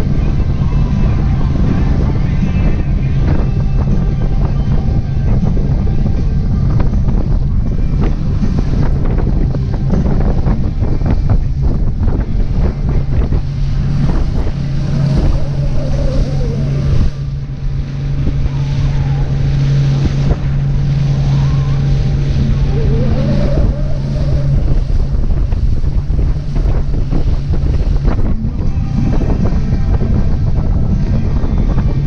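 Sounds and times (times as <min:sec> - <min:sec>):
motorboat engine drone: 0:00.0 - 0:32.0
wind buffeting microphone: 0:00.0 - 0:32.0.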